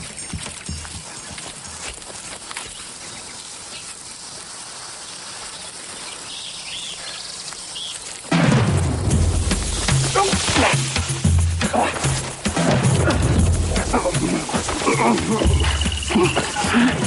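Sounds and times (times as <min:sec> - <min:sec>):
insects hissing: 0:00.0 - 0:17.0.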